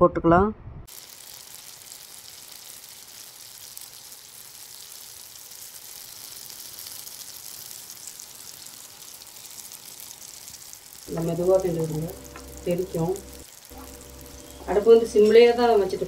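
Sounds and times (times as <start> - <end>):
puree sizzling in hot fat: 0.9 - 16.0.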